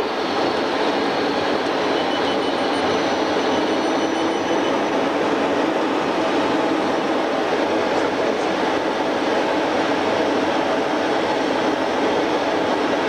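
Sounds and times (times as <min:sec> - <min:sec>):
jet engines and airflow drone: 0:00.0 - 0:13.0.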